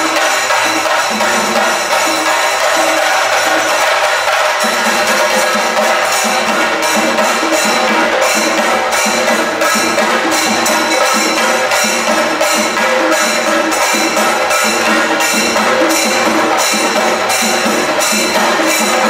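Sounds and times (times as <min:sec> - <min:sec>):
folk drums beating fast rhythm: 0:00.0 - 0:19.0.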